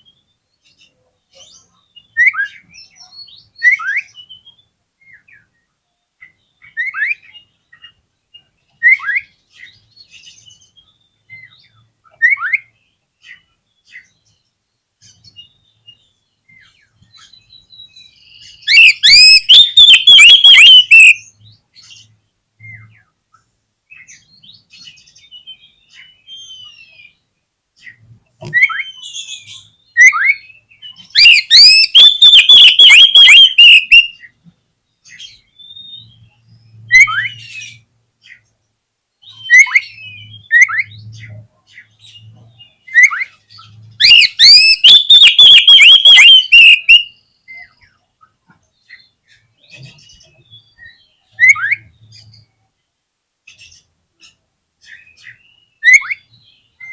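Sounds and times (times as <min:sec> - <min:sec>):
bird singing whistled notes: 0:01.4 - 0:05.6, 0:06.2 - 0:23.1, 0:24.0 - 0:34.3, 0:35.0 - 0:37.8, 0:39.2 - 0:48.0, 0:48.8 - 0:52.5.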